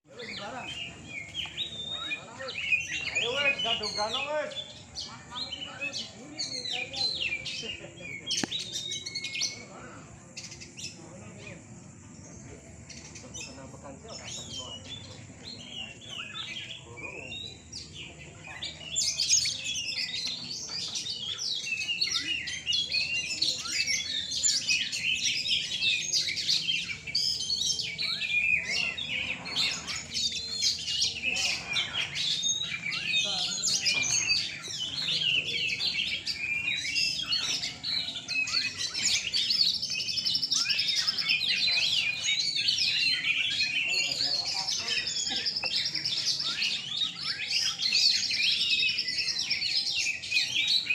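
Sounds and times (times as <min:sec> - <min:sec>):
many birds singing: 0:00.0 - 0:50.9.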